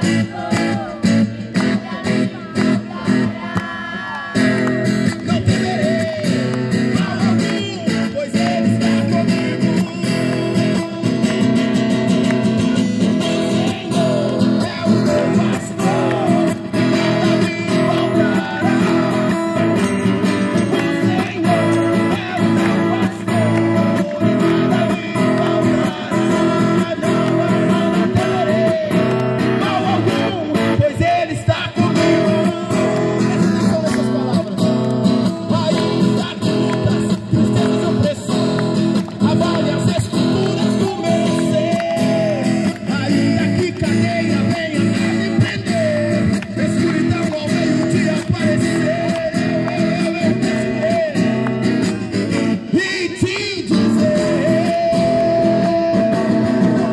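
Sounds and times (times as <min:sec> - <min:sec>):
acoustic guitar strumming: 0:00.0 - 0:56.9
man singing into microphone: 0:00.0 - 0:56.9.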